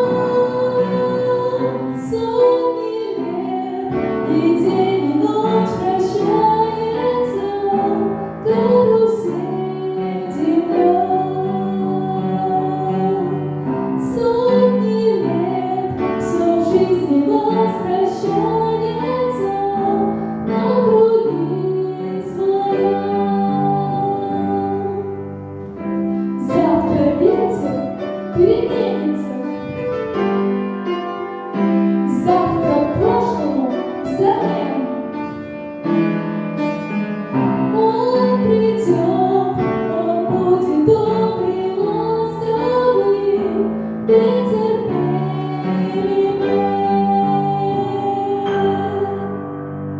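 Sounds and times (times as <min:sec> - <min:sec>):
woman singing a slow ballad: 0:00.0 - 0:25.2, 0:26.4 - 0:29.8, 0:32.1 - 0:35.0, 0:37.7 - 0:49.4
piano backing track: 0:00.0 - 0:49.9.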